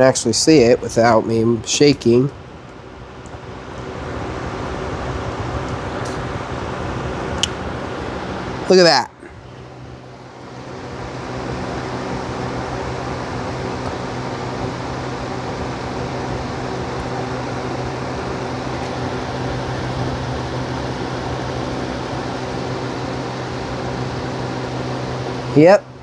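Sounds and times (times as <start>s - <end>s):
box fan motor hum: 0.0s - 26.0s.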